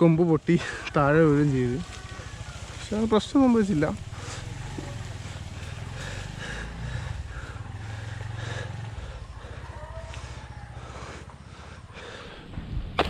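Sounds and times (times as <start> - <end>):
chainsaw idling: 0.0 - 12.4.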